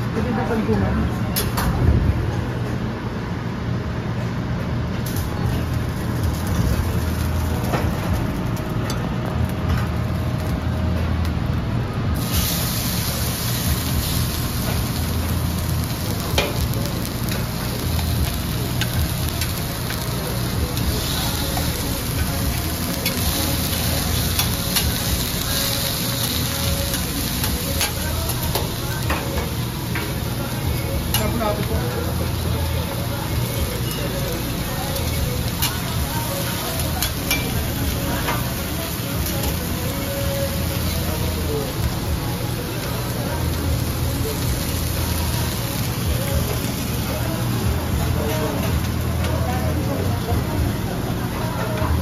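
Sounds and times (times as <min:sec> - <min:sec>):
steady low hum: 0:00.0 - 0:52.0
food sizzling on a griddle: 0:05.1 - 0:10.8, 0:12.1 - 0:52.0.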